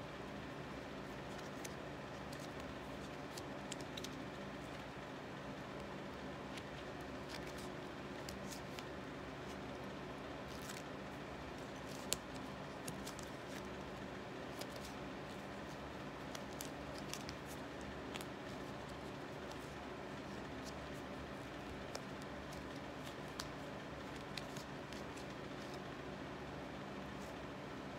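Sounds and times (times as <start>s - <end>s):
steady low hum: 0.0s - 27.9s
tape crinkling and clicking: 0.9s - 25.9s.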